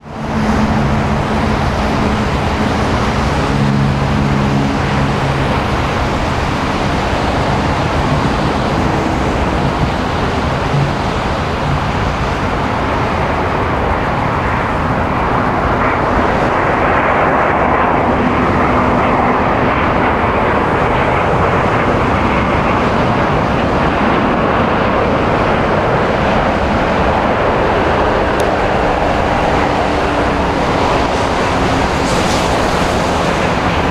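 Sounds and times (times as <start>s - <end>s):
jet engines landing: 0.0s - 33.9s.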